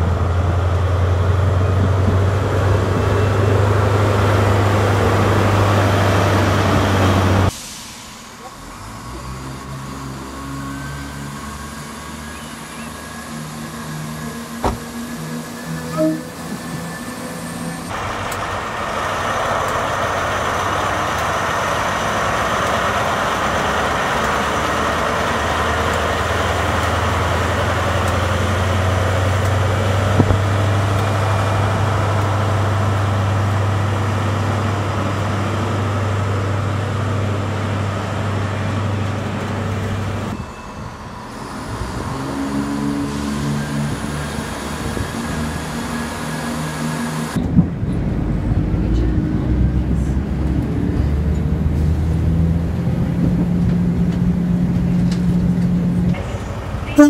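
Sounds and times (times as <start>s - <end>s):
diesel multiple unit engine: 0.0s - 57.0s
diesel train engine droning: 0.0s - 57.0s.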